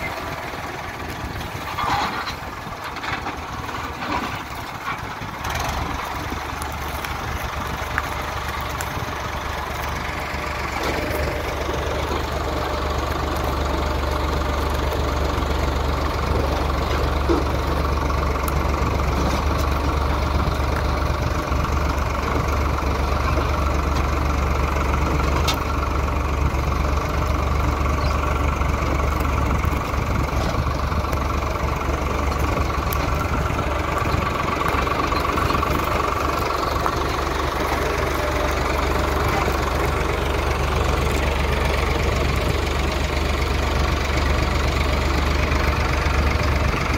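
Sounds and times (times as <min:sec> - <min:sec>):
tractor diesel engine rumbling: 0:00.0 - 0:46.9.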